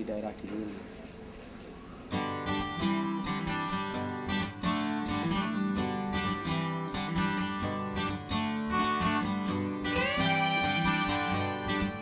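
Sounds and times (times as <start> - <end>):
strummed acoustic guitar: 2.1 - 12.0.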